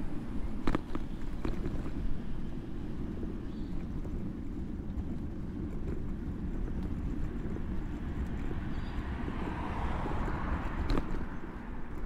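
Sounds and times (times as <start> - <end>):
low road noise rumble: 0.0 - 12.0.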